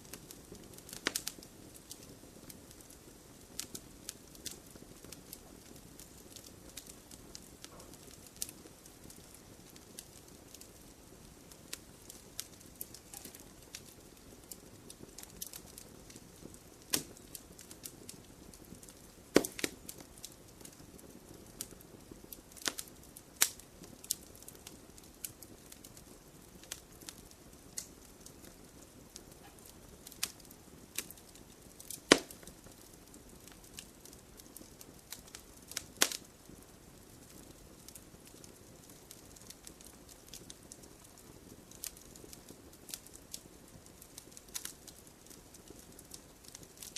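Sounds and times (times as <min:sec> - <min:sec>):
campfire crackling: 0:00.0 - 0:46.9
sharp pops of fire: 0:00.0 - 0:46.9.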